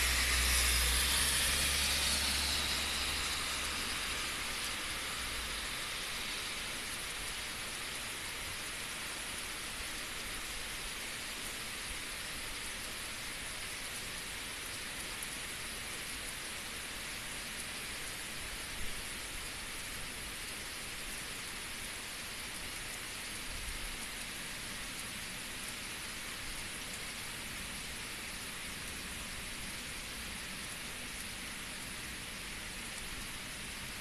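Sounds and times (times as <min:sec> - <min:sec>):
heavy rain on asphalt: 0:00.0 - 0:34.0.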